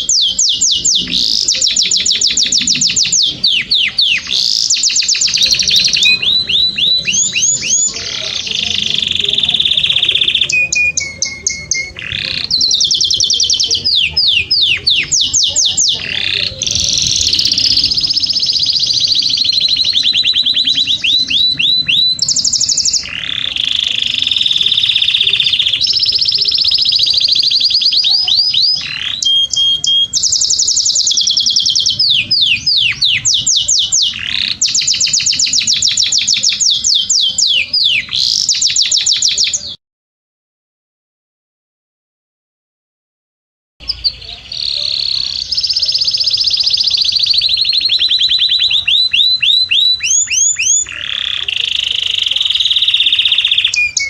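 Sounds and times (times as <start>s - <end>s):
canary singing trills: 0.0s - 39.8s, 43.8s - 54.0s.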